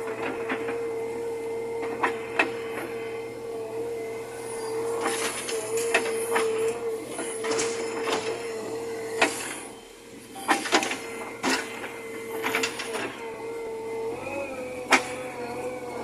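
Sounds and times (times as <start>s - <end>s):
machine whine and hum: 0.0s - 16.0s.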